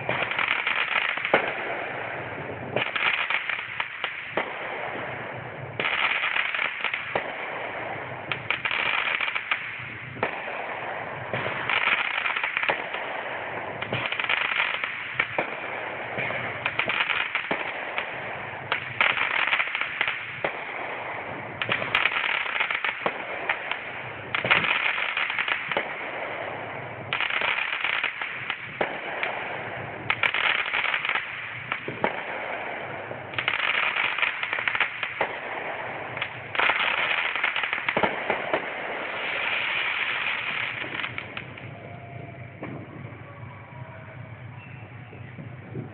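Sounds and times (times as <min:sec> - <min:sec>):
fireworks crackling pops: 0:00.0 - 0:43.6.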